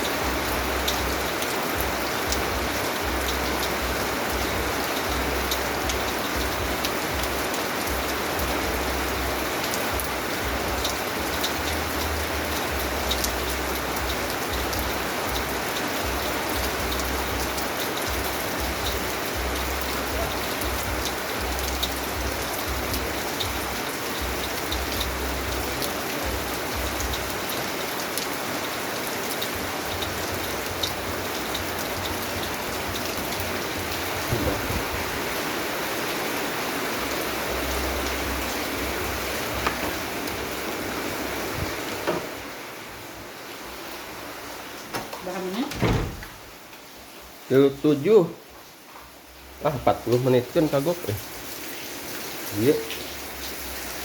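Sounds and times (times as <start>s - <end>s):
rain falling: 0.0s - 54.0s
raindrops ticking on a surface: 0.0s - 54.0s.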